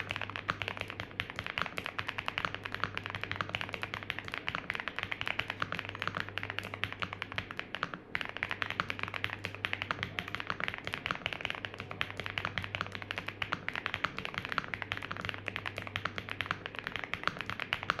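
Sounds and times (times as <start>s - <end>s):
fast typing on mechanical keyboard: 0.0s - 18.0s.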